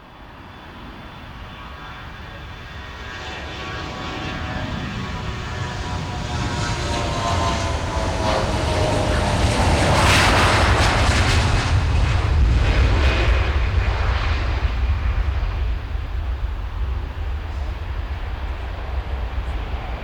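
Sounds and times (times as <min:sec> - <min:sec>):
jet airliner taking off: 0:00.0 - 0:20.0.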